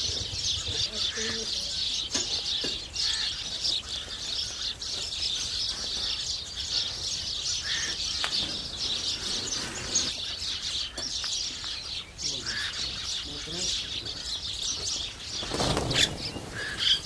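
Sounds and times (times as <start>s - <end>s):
sparrows chirping: 0.0s - 17.0s.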